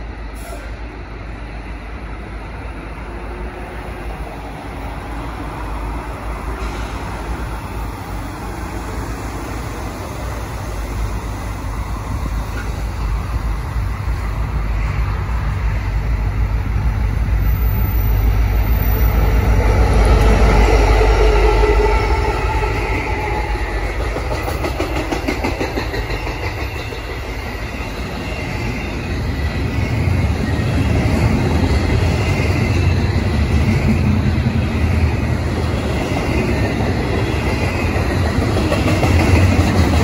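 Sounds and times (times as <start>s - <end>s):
diesel freight train approaching: 0.0s - 40.0s.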